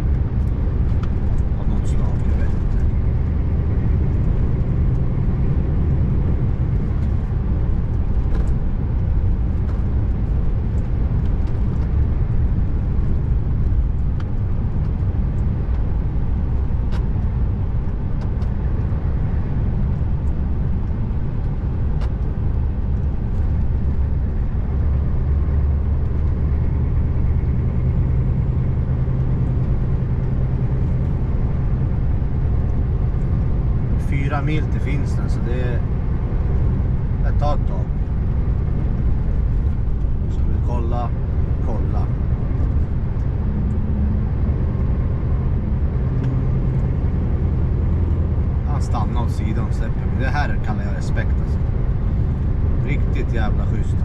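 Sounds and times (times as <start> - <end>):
truck engine drone: 0.0 - 54.0
tyre and road noise: 0.0 - 54.0.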